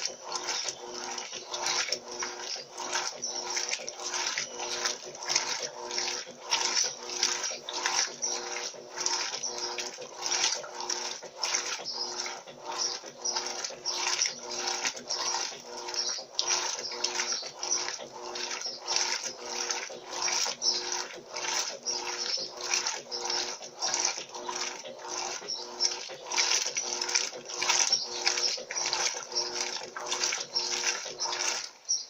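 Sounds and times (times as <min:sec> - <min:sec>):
faint motor hum: 0:00.0 - 0:32.0
washing machine water sloshing: 0:00.0 - 0:32.0.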